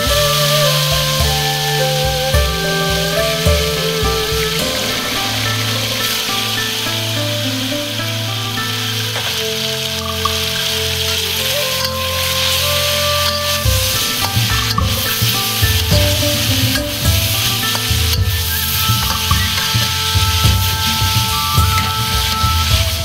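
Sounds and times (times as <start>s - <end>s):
background music with beat: 0.0s - 23.0s
food sizzling in a wok: 0.2s - 22.2s.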